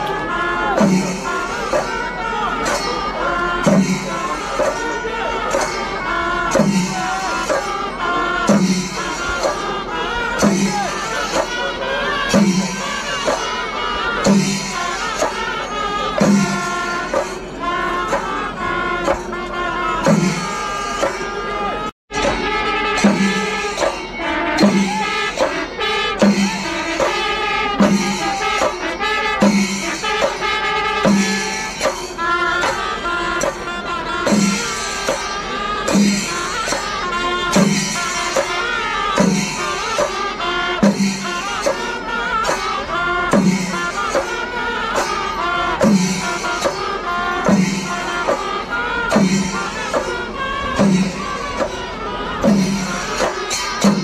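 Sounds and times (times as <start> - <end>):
cymbals clashing: 0.0 - 54.0
wavering reed melody: 0.0 - 54.0.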